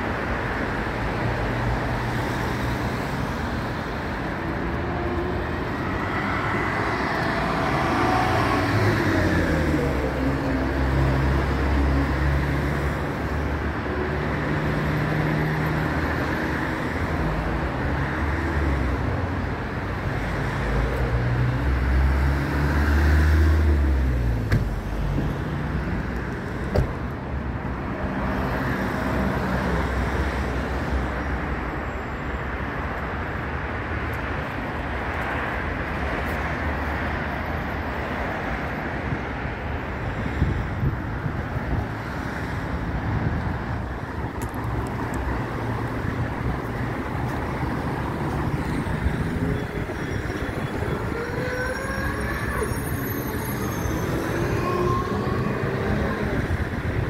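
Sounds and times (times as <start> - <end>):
car engines passing: 0.0 - 57.0.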